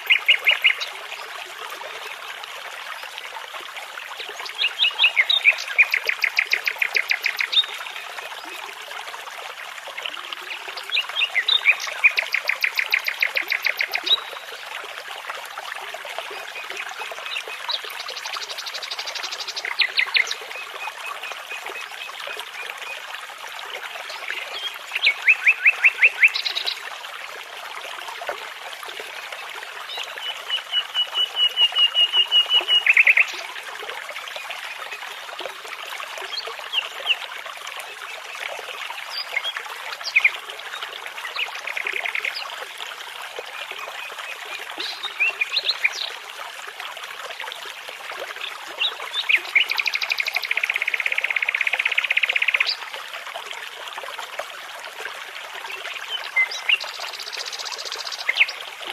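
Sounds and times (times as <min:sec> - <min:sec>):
brook babbling: 0:00.0 - 0:58.9.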